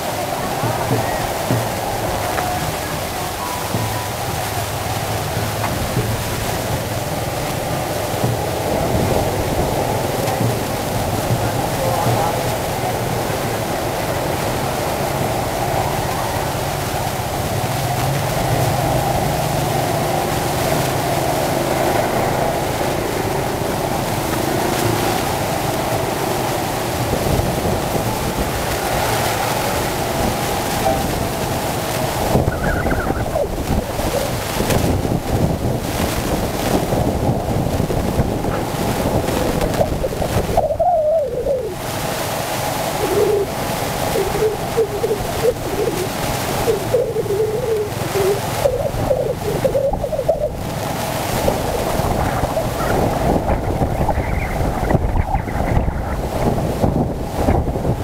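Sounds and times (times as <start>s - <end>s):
road and traffic noise: 0.0s - 58.0s
wind rushing on microphone: 0.0s - 58.0s.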